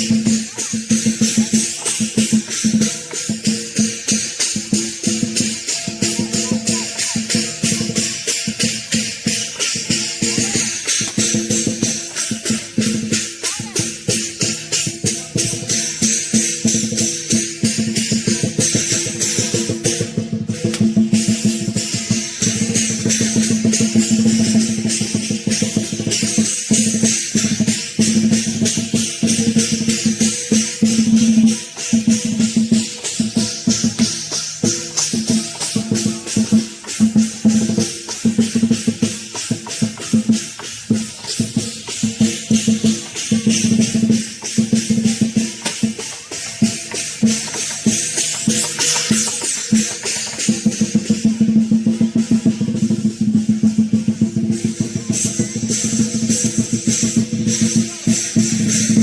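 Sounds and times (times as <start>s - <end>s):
cymbals crashing: 0.0s - 59.0s
drum beating: 0.0s - 59.0s.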